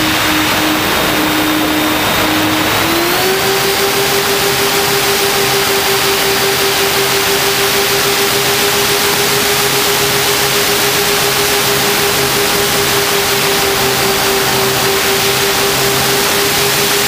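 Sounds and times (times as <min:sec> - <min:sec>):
model plane motor humming: 0:00.0 - 0:17.0
wind rushing over microphone: 0:00.0 - 0:17.0.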